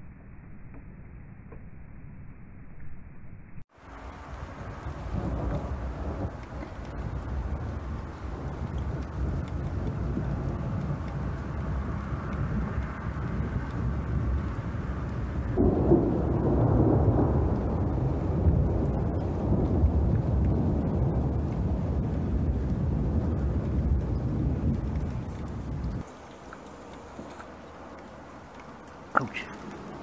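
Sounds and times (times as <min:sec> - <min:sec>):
low thunder rumble: 0:03.8 - 0:30.0.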